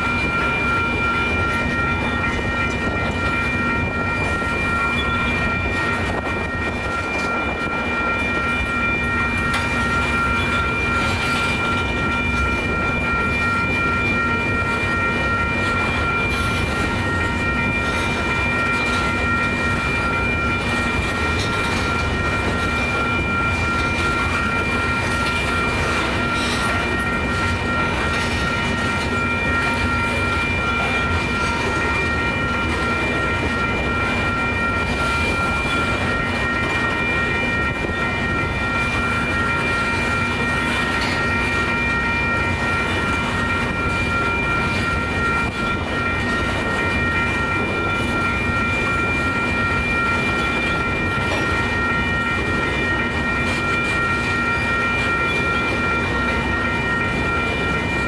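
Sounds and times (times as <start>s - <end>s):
crossing warning bell ringing: 0.0s - 58.0s
freight train rolling past: 0.0s - 58.0s.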